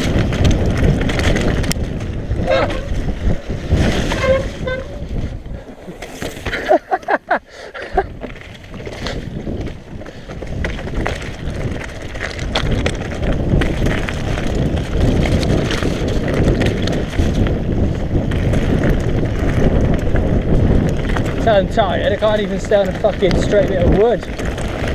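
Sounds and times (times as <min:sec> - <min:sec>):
bike tyres rumbling on dirt: 0:00.0 - 0:24.9
wind buffeting microphone: 0:00.0 - 0:24.9.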